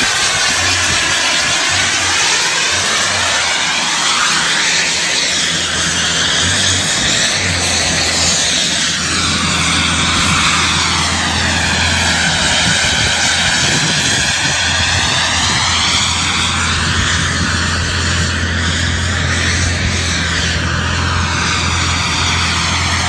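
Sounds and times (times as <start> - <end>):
aircraft flying by: 0.0 - 23.0.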